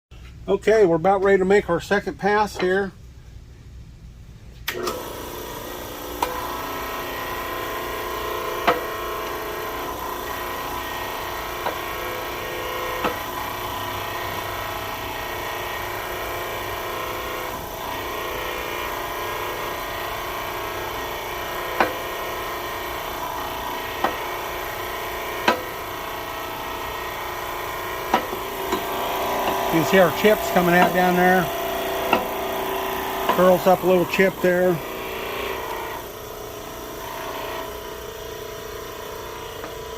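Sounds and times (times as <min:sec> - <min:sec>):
broaching machine running: 0:04.7 - 0:39.9.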